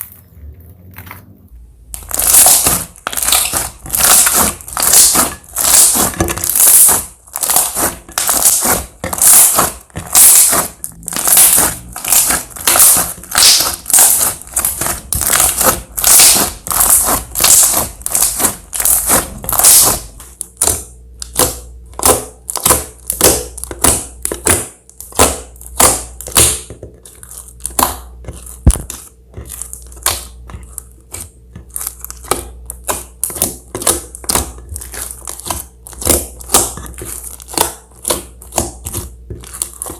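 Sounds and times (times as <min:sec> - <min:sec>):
slime squishing by hand: 0:00.0 - 0:39.9.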